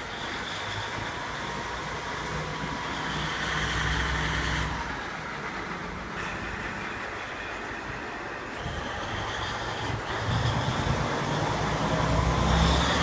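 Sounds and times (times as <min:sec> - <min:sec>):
diesel railcar engine drone: 0:00.0 - 0:13.0.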